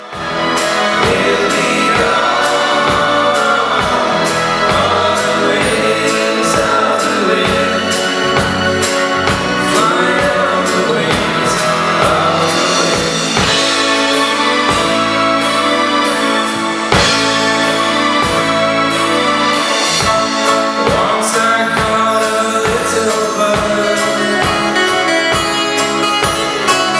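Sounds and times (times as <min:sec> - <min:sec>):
voices singing together: 0:00.0 - 0:26.7
pop-rock band playing: 0:00.0 - 0:26.9
steady drum beat: 0:00.0 - 0:26.9.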